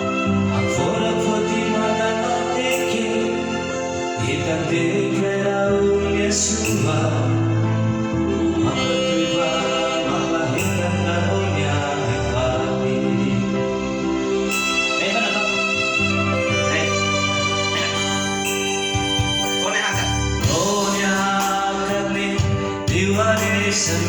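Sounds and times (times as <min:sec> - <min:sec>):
electronic keyboard song: 0:00.0 - 0:24.0
person singing: 0:00.0 - 0:24.0.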